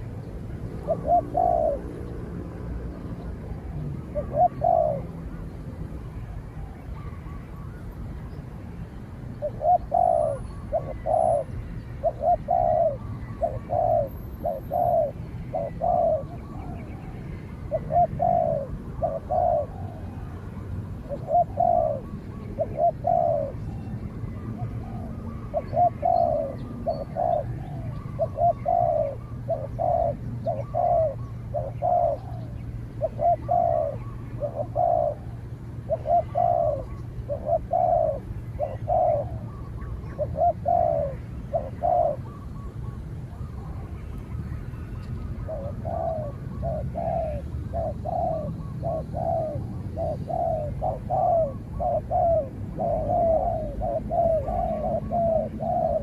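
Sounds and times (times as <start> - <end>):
dove cooing: 0.0 - 7.9, 9.3 - 44.2, 44.8 - 56.0.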